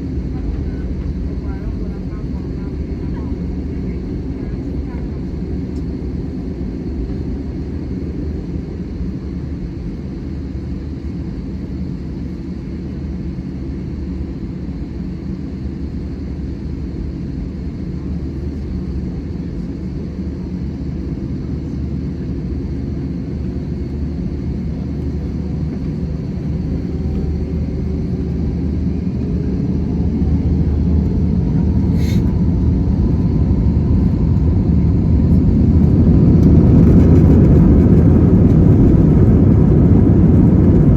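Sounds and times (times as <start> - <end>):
aircraft cabin rumble: 0.0 - 40.9.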